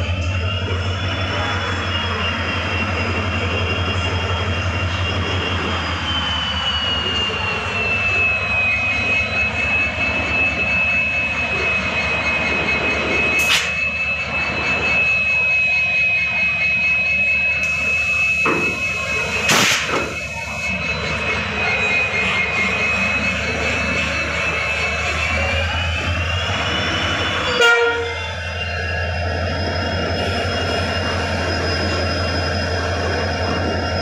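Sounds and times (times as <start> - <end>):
diesel locomotive engine running: 0.0 - 34.0
high-pitched whine: 0.0 - 34.0.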